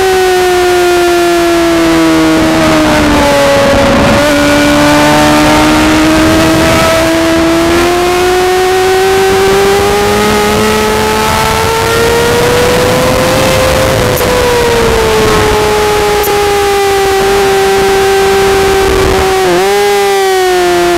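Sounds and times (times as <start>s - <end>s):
racing motorcycle engine high revs: 0.0s - 20.9s.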